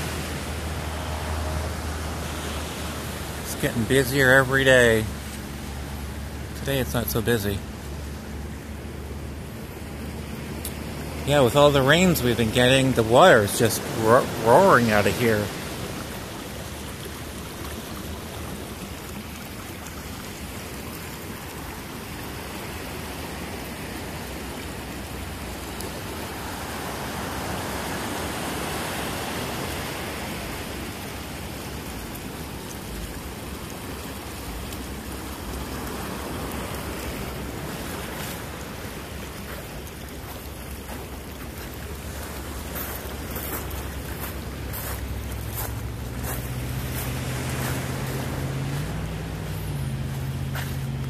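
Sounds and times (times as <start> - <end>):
creek rushing: 0.0 - 51.0
ocean surf washing: 0.0 - 51.0.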